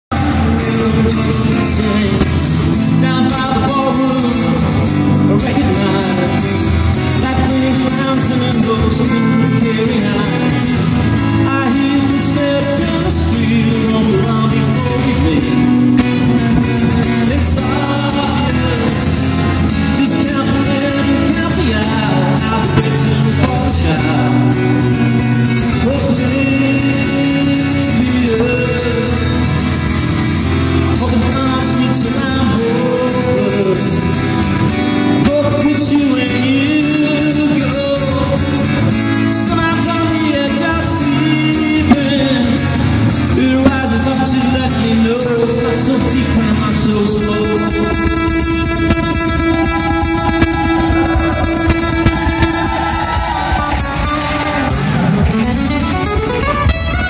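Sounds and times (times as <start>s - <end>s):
man singing: 0.0s - 55.8s
acoustic guitar: 0.0s - 57.0s.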